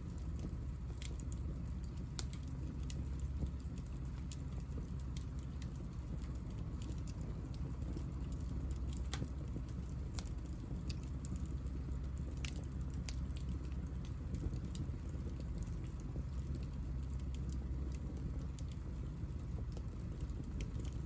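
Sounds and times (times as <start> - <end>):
low rumble of flame: 0.0 - 21.0
wood crackling and popping: 0.0 - 21.0.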